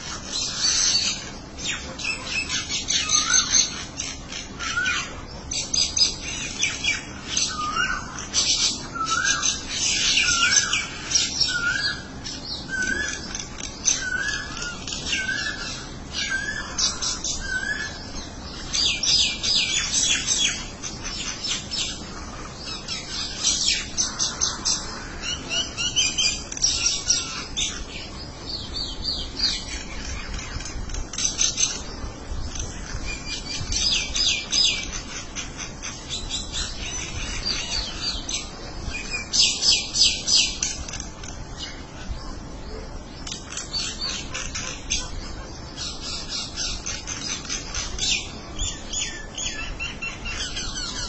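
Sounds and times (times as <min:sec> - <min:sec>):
birds chattering: 0:00.0 - 0:51.0.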